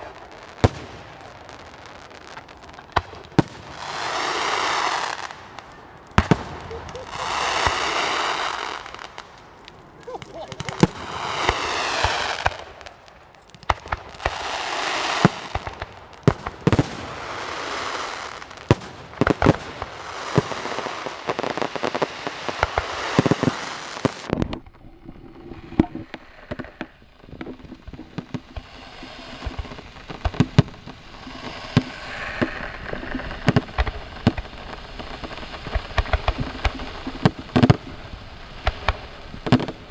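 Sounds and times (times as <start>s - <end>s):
fireworks bangs and crackles: 0.0s - 24.7s, 25.7s - 39.9s
fireworks whooshing: 0.0s - 39.9s.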